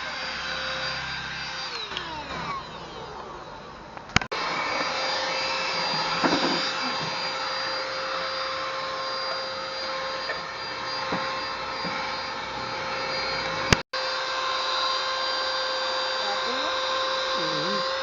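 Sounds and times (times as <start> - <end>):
vacuum cleaner whining: 0.0 - 18.0.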